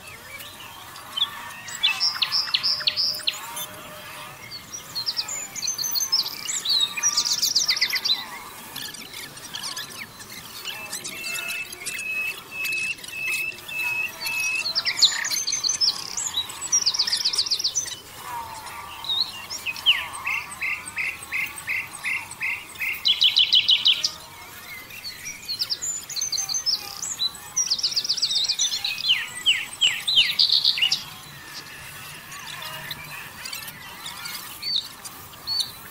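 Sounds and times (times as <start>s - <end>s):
songbirds trilling and chirping: 0.0s - 35.9s.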